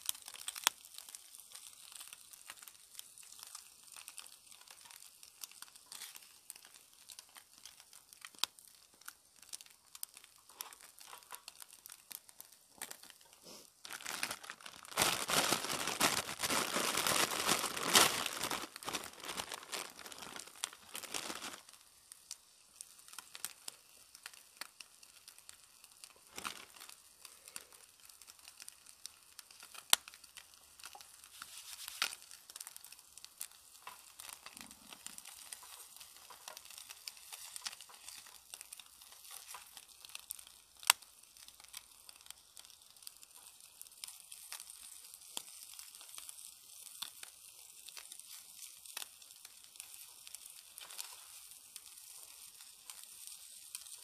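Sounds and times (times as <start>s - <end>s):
food frying in pan: 0.0s - 54.0s
wood fire crackling: 0.0s - 54.0s.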